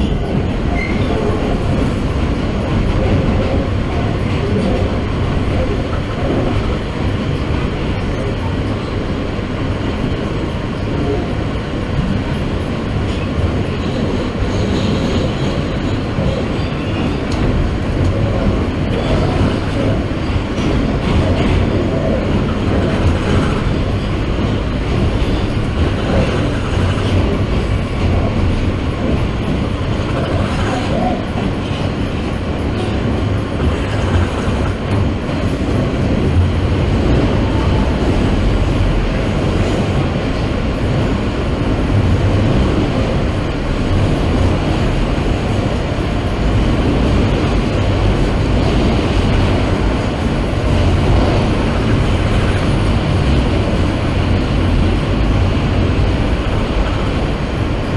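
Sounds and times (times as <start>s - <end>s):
subway train wheels and motors: 0.0s - 57.9s.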